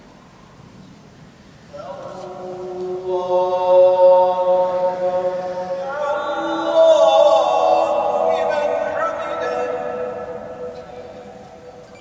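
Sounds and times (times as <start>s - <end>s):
man chanting prayer: 1.7s - 12.0s.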